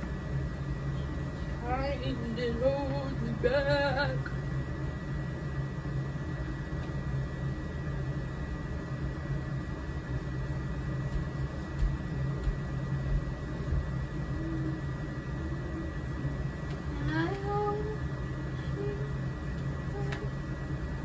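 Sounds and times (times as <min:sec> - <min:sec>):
faint hummed notes: 0:00.0 - 0:21.0
low mechanical hum: 0:00.0 - 0:21.0.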